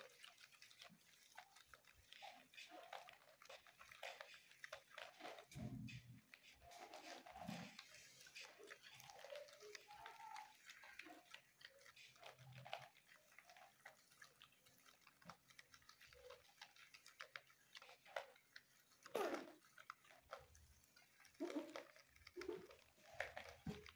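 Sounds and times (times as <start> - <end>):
guinea pigs chewing lettuce: 0.0 - 23.9.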